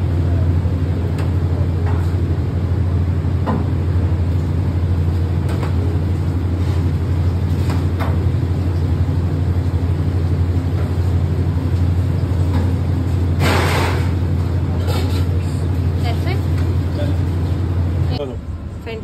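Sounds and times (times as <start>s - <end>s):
kitchen machinery humming: 0.0s - 19.0s.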